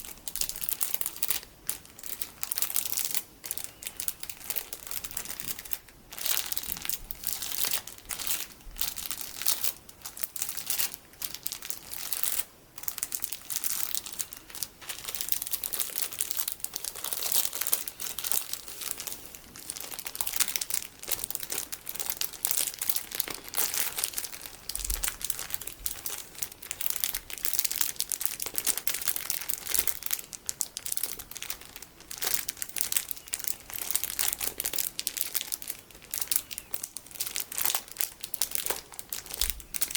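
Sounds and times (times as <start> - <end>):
plastic packaging crinkling: 0.0 - 39.9.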